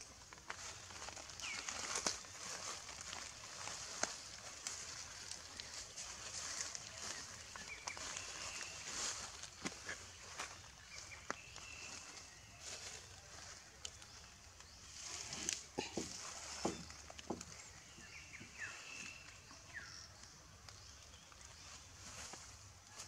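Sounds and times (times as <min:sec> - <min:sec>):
rustling in dry leaves: 0:00.0 - 0:23.0.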